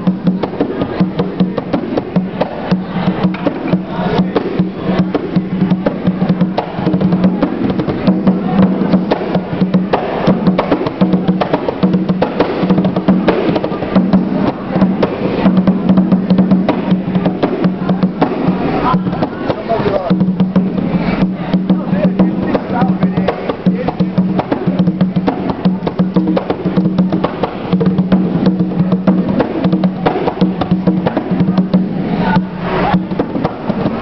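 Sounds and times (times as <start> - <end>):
hand drum played fast: 0.0 - 34.0.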